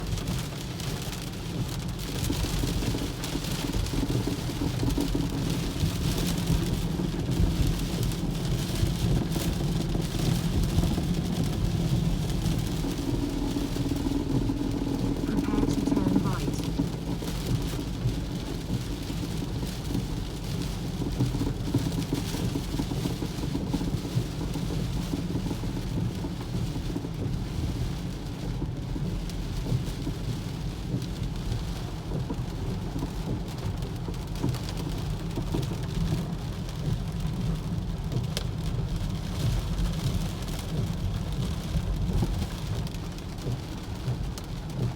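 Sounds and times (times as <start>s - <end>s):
heavy rain: 0.0s - 44.9s
loud low rumble from car: 0.0s - 44.9s.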